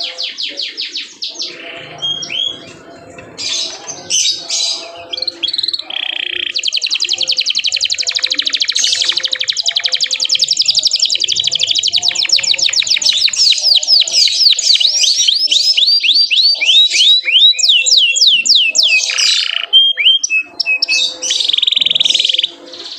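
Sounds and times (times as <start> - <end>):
canary singing: 0.0 - 22.9.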